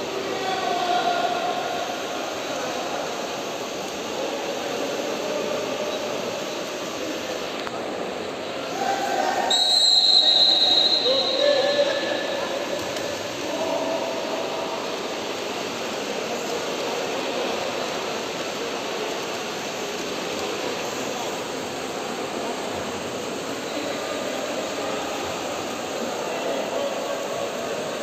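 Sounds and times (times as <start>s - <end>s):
swimmers splashing in indoor pool: 0.0s - 28.0s.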